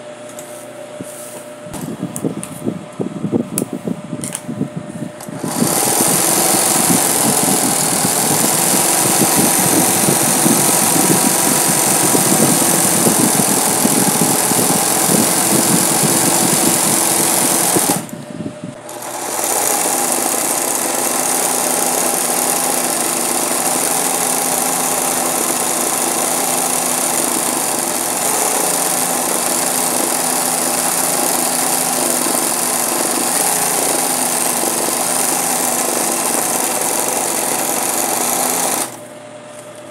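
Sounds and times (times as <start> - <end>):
sewing machine running fast: 5.2 - 18.1, 18.8 - 39.1.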